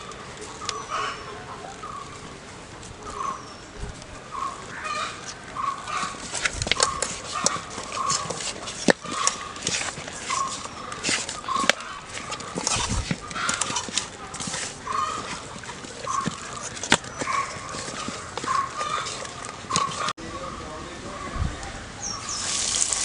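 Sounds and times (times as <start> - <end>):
fowl calling: 0.0 - 2.2, 4.3 - 21.4.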